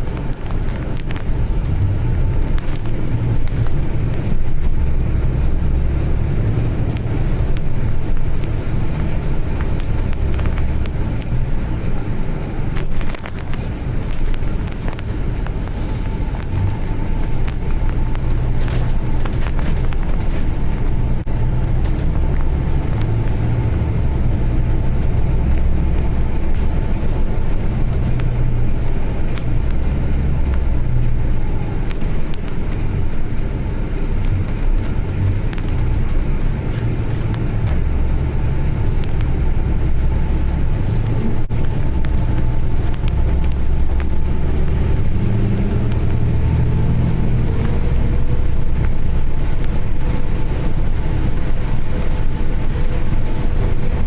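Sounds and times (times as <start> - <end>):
bus diesel engine: 0.0 - 54.0
road noise: 0.0 - 54.0.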